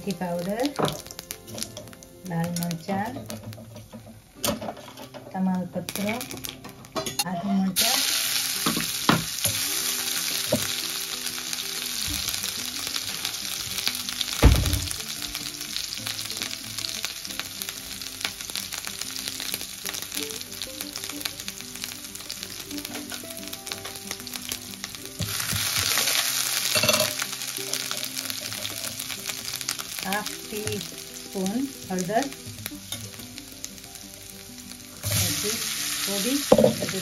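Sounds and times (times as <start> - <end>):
hot oil sizzling: 0.0 - 37.0.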